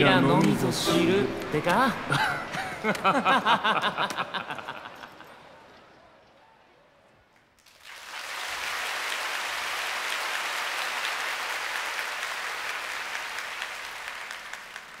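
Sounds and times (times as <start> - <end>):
audience applauding: 0.4 - 5.0, 7.5 - 15.0.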